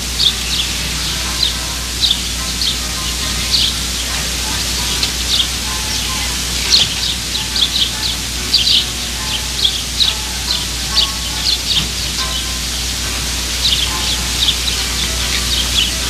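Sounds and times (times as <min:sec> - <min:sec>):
small bird chirping: 0:00.0 - 0:16.0
steady hiss: 0:00.0 - 0:16.0.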